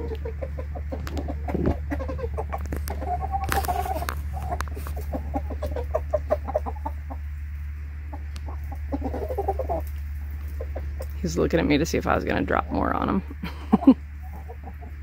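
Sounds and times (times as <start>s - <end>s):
chickens clucking: 0.0s - 15.0s
low hum: 0.0s - 15.0s.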